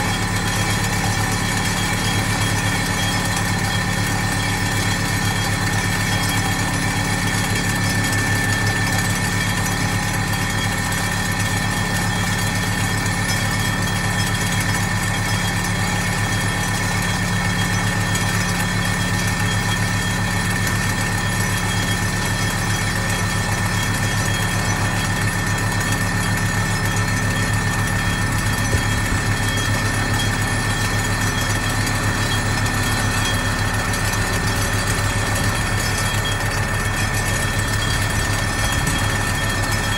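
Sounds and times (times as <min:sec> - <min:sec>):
vibratory pile hammer running: 0:00.0 - 0:39.9.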